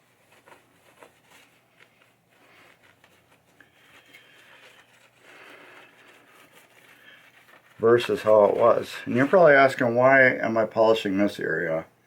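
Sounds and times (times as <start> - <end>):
hand rubbing on playfield: 0.0 - 10.0.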